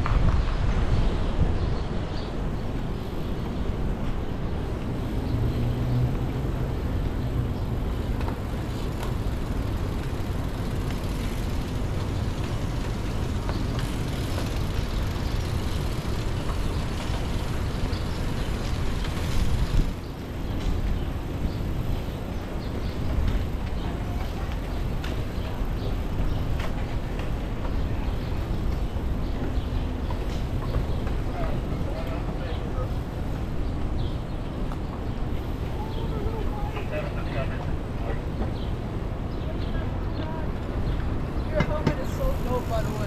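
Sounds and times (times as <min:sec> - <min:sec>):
bicycle tyre and road noise: 0:00.0 - 0:43.0
wind rumbling on microphone: 0:00.0 - 0:43.0.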